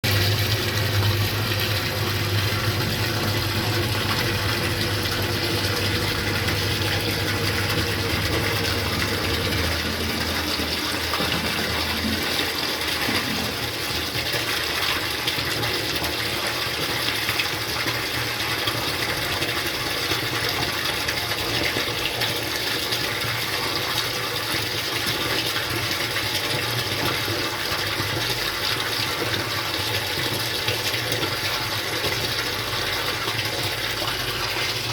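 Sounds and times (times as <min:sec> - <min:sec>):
rainwater pouring: 0:00.0 - 0:34.9.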